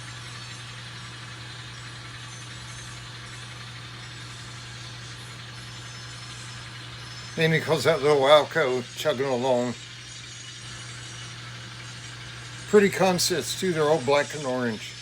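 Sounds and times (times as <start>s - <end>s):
model train diesel engine drone: 0.0s - 15.0s.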